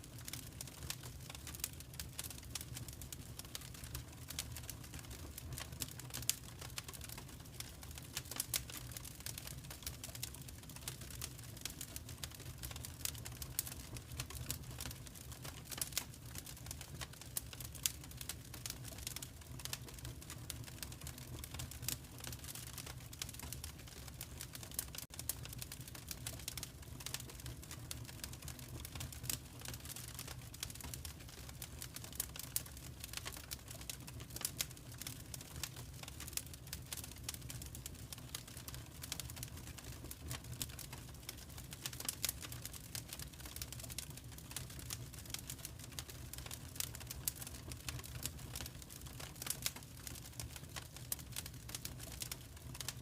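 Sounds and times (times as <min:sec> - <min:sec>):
fire crackling: 0:00.0 - 0:53.0
fire rumbling: 0:00.1 - 0:53.0.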